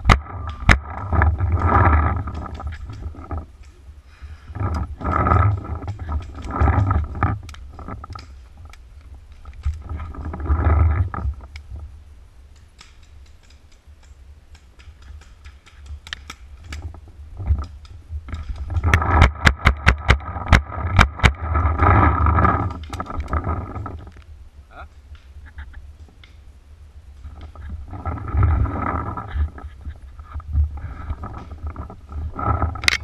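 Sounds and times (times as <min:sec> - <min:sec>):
branches scraping against camera: 0:00.0 - 0:11.9, 0:12.5 - 0:26.5, 0:27.2 - 0:33.0.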